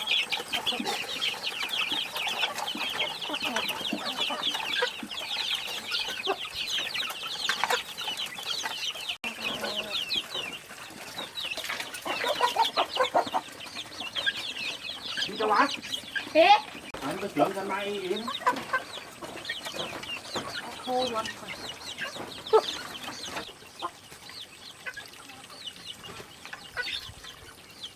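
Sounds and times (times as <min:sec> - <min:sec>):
low clucking: 0:00.0 - 0:27.6
chicks peeping: 0:00.0 - 0:27.9.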